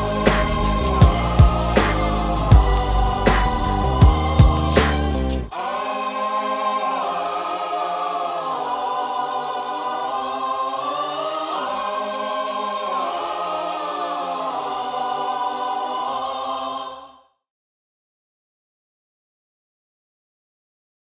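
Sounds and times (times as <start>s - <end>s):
choral singing: 0.0s - 17.4s.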